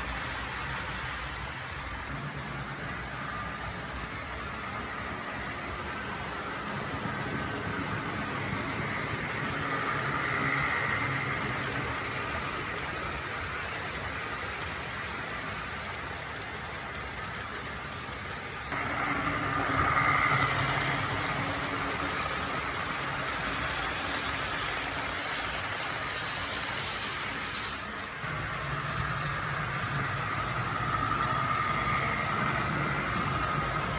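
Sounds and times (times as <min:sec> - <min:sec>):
model train motor and wheel rumble: 0:00.0 - 0:33.9.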